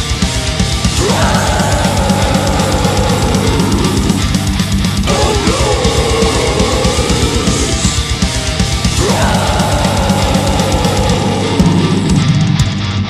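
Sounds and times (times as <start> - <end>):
distorted guitars: 0.0 - 13.0
held lead guitar melody: 0.0 - 13.0
rapid kick drum: 0.8 - 12.7.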